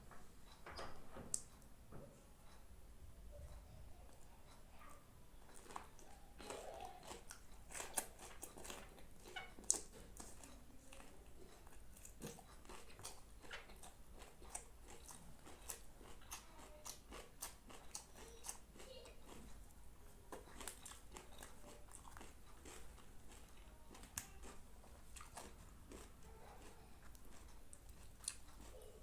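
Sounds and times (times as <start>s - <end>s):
person chewing with mouth clicks: 5.4s - 29.0s.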